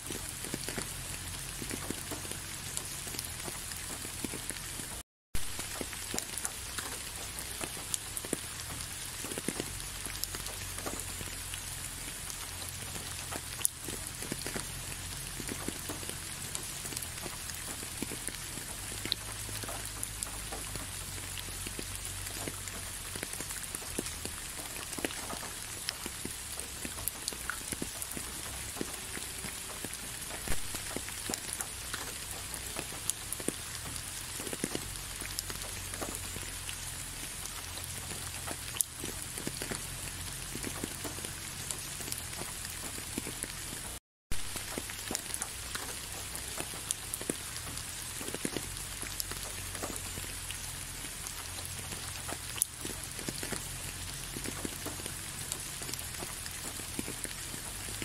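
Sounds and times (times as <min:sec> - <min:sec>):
raindrops ticking: 0:00.0 - 0:58.0
steady rain: 0:00.0 - 0:58.0.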